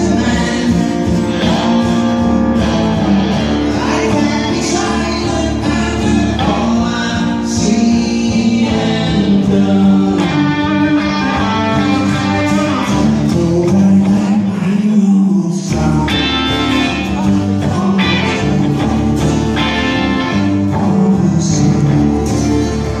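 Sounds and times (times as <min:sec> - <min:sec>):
acoustic guitar: 0:00.0 - 0:23.0
man singing: 0:00.0 - 0:23.0.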